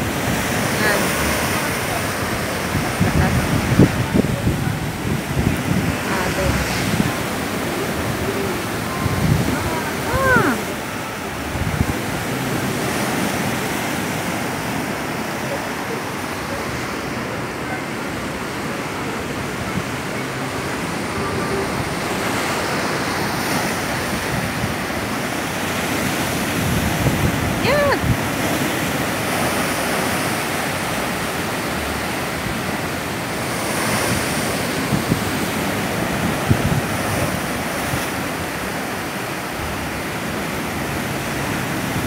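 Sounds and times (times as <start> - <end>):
surf rushing over rocks: 0.0 - 42.0
waves thumping on rocks: 0.0 - 42.0.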